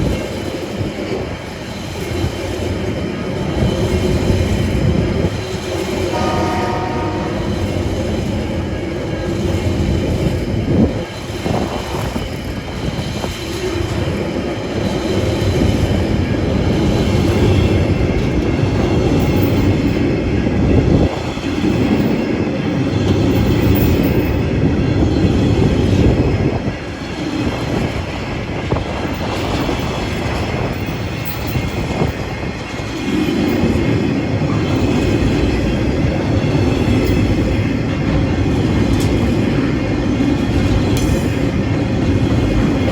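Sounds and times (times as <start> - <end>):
freight train rolling past: 0.0 - 42.9
steel wheels clattering on rails: 0.0 - 42.9.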